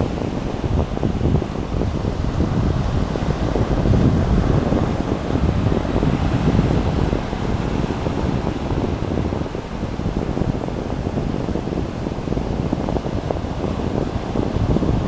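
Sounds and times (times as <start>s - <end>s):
ocean surf rushing: 0.0s - 15.0s
wind buffeting microphone: 0.0s - 15.0s.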